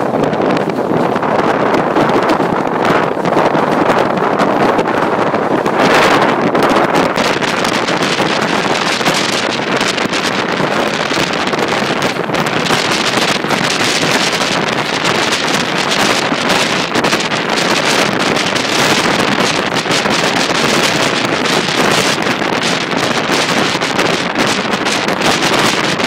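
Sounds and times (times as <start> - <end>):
train running noise: 0.0 - 26.0
wind rushing over microphone: 0.0 - 26.0.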